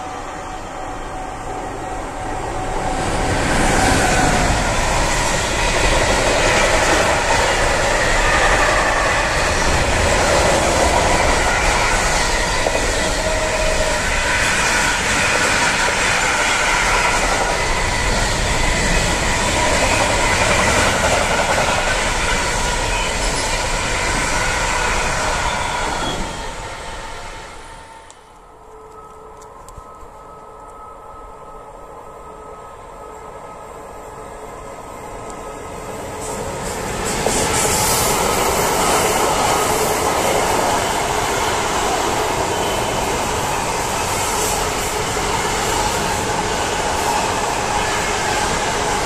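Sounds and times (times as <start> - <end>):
freight train rolling past: 0.0 - 49.0.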